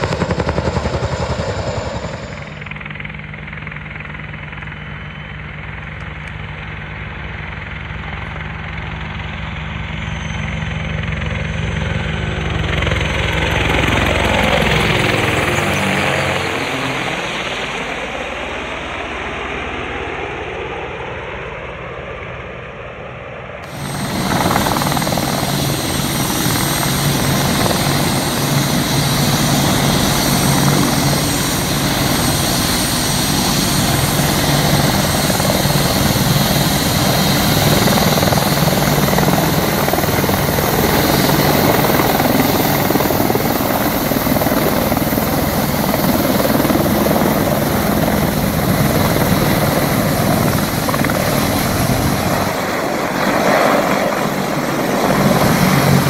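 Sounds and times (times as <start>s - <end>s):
helicopter rotor and engines: 0.0s - 56.0s.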